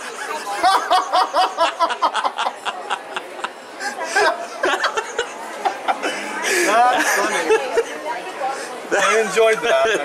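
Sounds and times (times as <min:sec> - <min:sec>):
people laughing: 0:00.0 - 0:10.0
people talking: 0:00.0 - 0:10.0.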